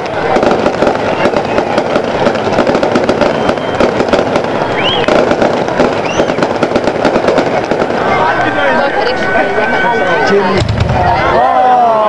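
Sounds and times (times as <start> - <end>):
firework whistles: 0.0 - 10.6
fireworks crackling and popping: 0.0 - 11.6.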